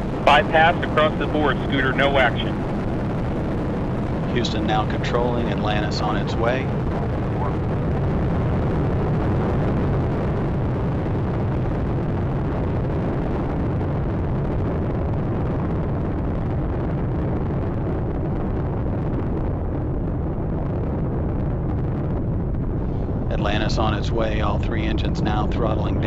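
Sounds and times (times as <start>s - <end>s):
rocket engines rumbling: 0.0s - 26.0s.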